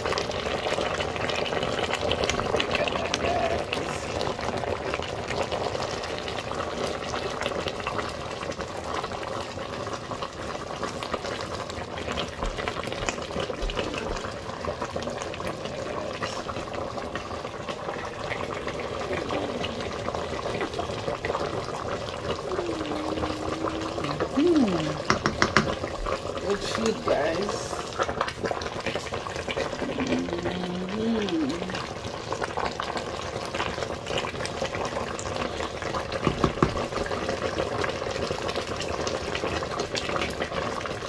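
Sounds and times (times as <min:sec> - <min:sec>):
stew boiling in a pot: 0:00.0 - 0:41.0.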